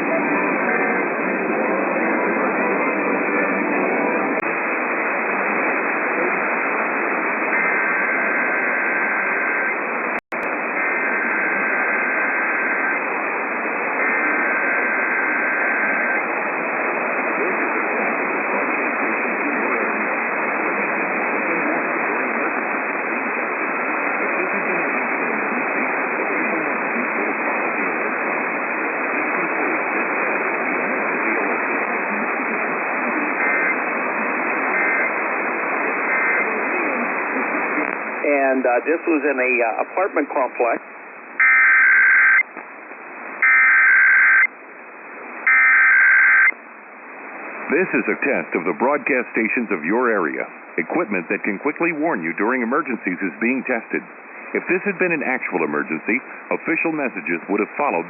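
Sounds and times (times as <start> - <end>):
radio static: 0.0 - 58.0.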